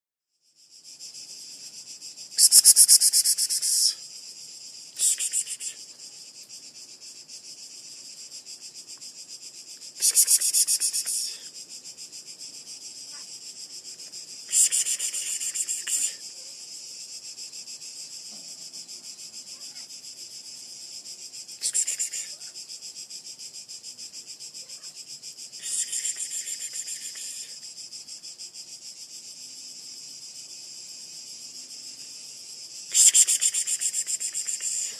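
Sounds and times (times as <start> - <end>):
insects buzzing: 0.4 - 34.9.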